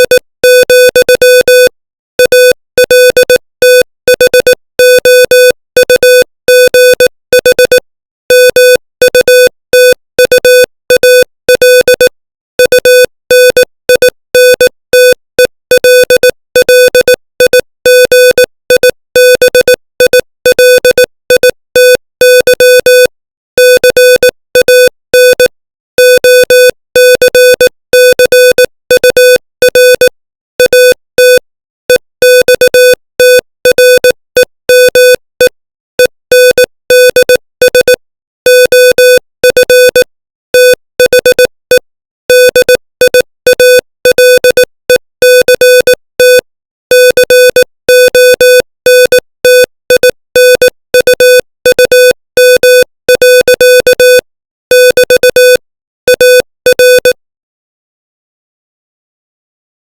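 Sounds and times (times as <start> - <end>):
morse code beeps: 0.0 - 57.2.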